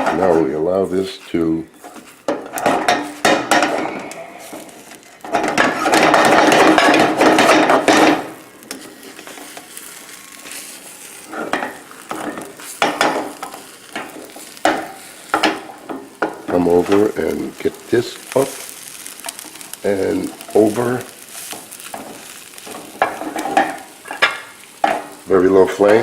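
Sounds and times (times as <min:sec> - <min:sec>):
omelette cooking in a frying pan: 0:00.0 - 0:26.0
spatula scraping a pan: 0:00.0 - 0:26.0.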